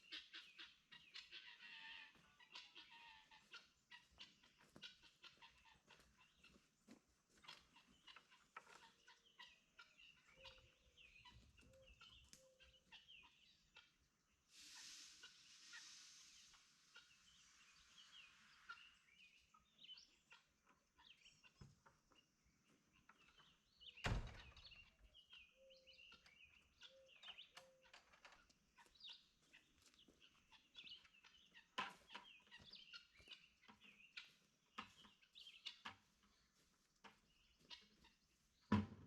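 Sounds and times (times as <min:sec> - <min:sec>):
faint bird chirps and clucks: 0:00.0 - 0:39.0.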